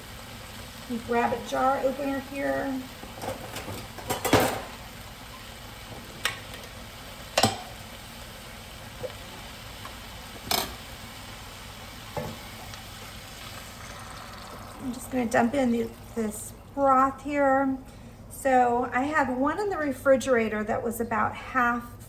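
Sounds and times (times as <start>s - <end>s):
pot sizzling: 0.0s - 17.9s.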